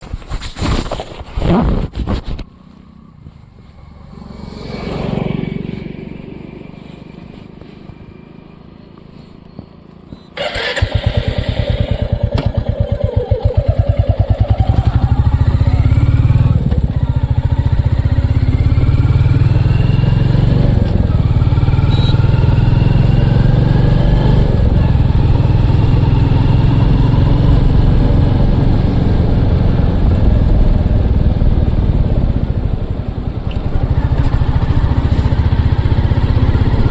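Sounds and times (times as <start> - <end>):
motorcycle engine starting and idling: 2.4 - 36.9.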